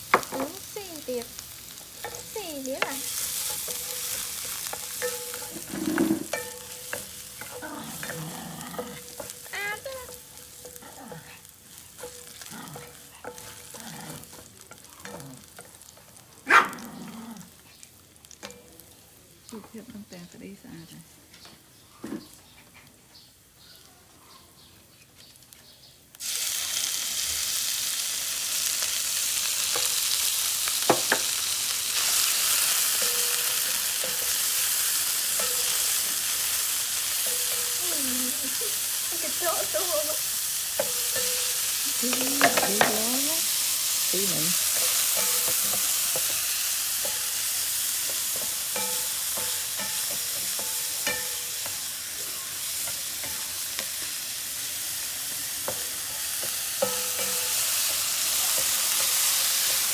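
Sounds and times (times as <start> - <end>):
spatula stirring in a wok: 0.0 - 16.8, 28.6 - 59.9
food sizzling in hot oil: 0.0 - 21.1, 25.3 - 59.9.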